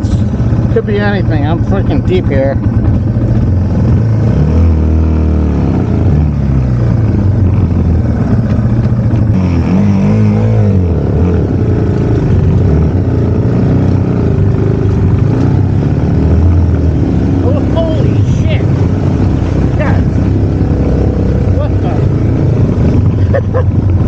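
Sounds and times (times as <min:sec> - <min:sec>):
motorcycle engine working hard: 0:00.0 - 0:24.0.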